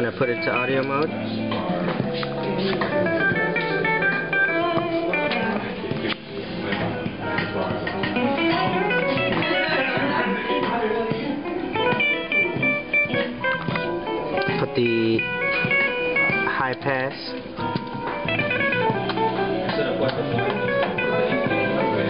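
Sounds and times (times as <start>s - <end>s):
music with plucked guitar: 0.0s - 22.0s.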